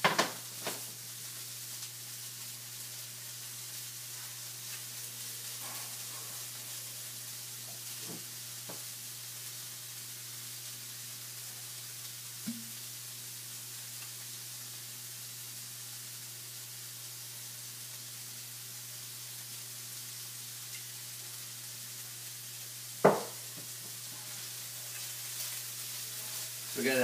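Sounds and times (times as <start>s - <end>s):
food sizzling in a skillet: 0.0s - 27.0s.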